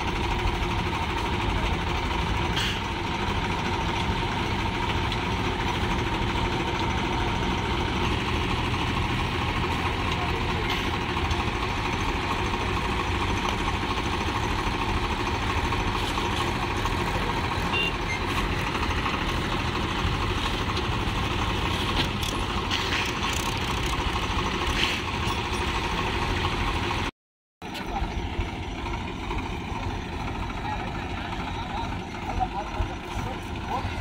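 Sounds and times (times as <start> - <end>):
another tractor engine running: 0.0 - 34.0
tractor diesel engine running: 0.0 - 34.0.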